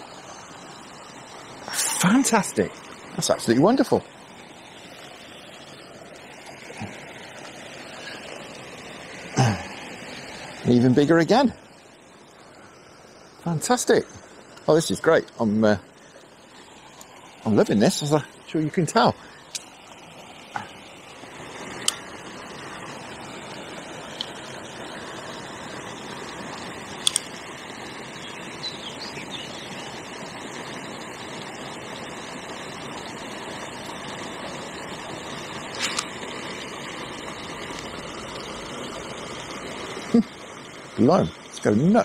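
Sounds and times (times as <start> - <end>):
water rushing through overflow: 0.0 - 42.0.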